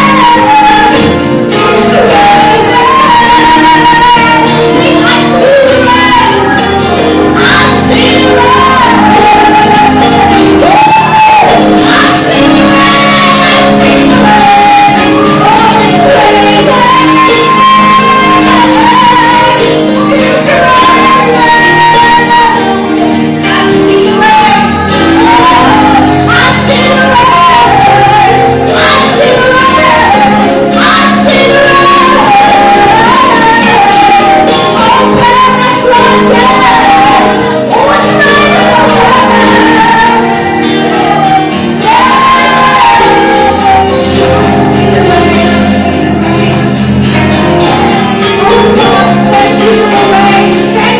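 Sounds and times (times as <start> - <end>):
person singing: 0.0 - 50.9.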